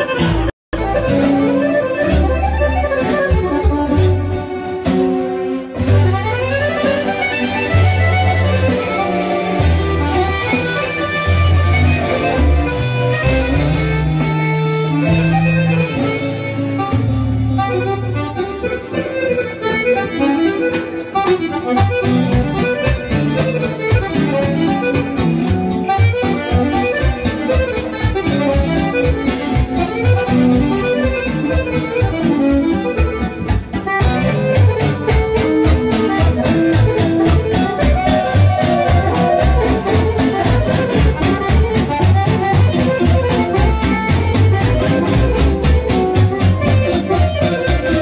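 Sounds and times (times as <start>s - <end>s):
arranger keyboard backing: 0.0s - 48.0s
button accordion melody: 0.0s - 48.0s.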